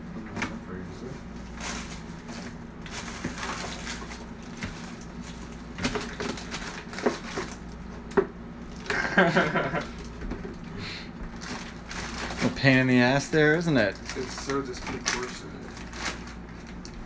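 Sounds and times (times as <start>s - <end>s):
frozen food bags rustling: 1.1s - 9.0s, 9.9s - 17.0s.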